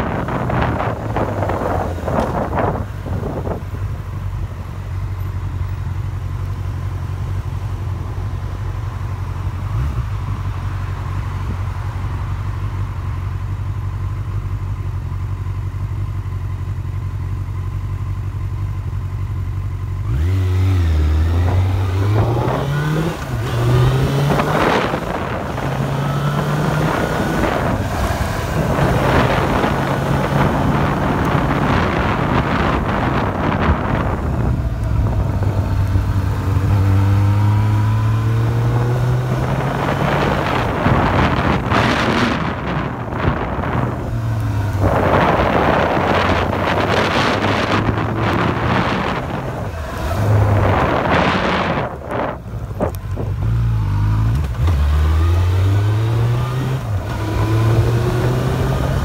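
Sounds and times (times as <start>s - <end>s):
car engine idling and revving: 0.0s - 59.0s
road and wind noise: 0.0s - 59.0s.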